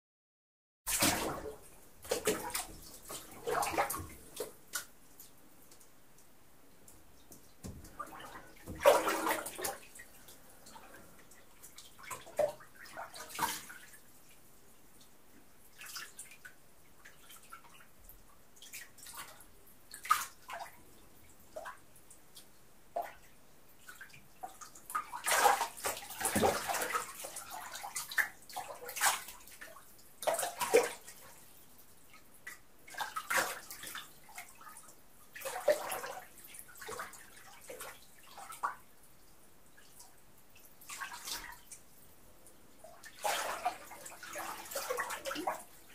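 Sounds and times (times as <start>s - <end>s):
water splashing in a bathtub: 0.9s - 45.9s.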